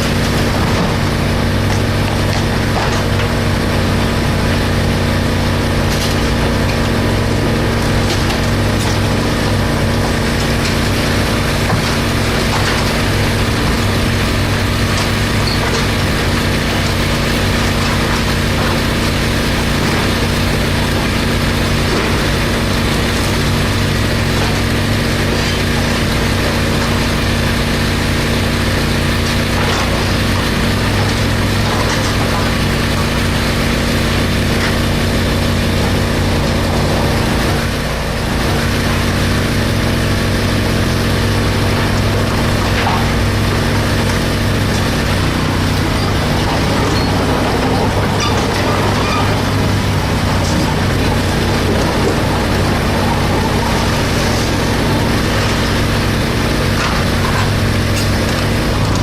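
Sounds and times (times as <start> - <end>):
construction machine engine running: 0.0 - 59.0.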